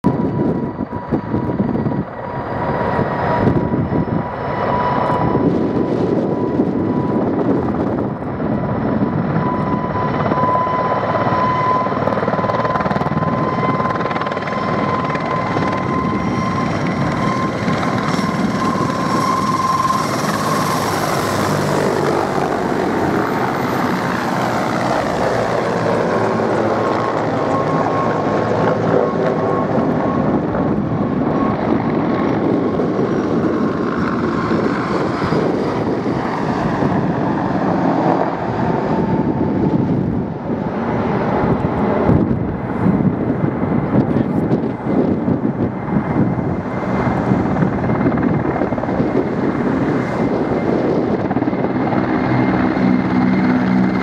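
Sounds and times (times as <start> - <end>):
helicopter rotor and turbine noise: 0.0 - 54.0
high turbine whine: 0.0 - 54.0.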